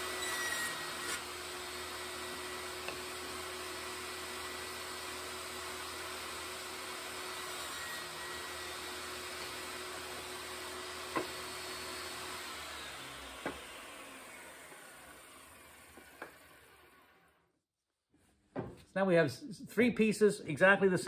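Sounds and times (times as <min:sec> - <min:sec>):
table saw running and winding down: 0:00.0 - 0:17.5.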